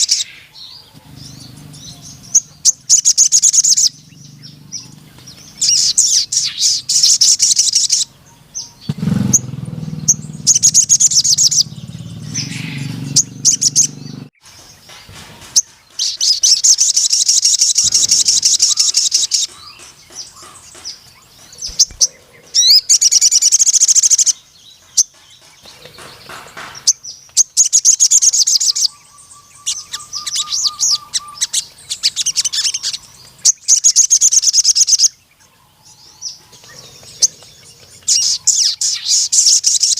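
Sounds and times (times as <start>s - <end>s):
bird singing high trills: 0.0s - 39.9s.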